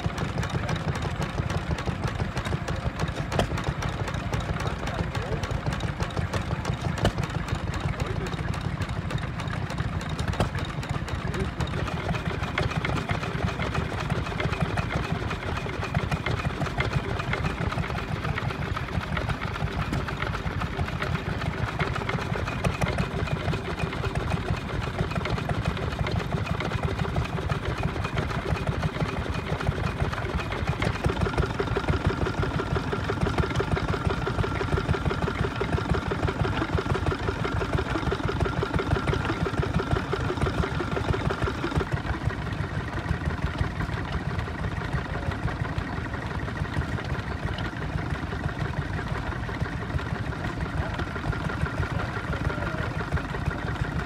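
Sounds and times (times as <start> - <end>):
small stationary engines running: 0.0 - 54.0.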